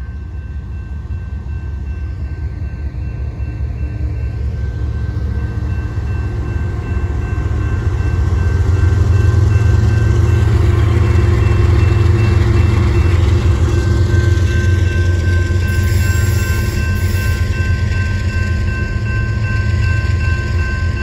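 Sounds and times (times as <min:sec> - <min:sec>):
diesel locomotive engine rumble: 0:00.0 - 0:21.0
steady high tone: 0:00.0 - 0:21.0.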